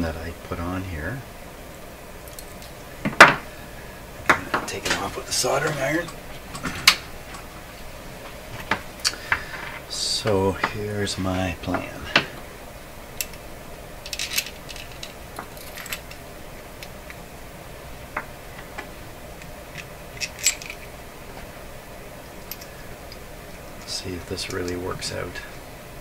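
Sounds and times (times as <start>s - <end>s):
steady faint hiss: 0.0s - 26.0s.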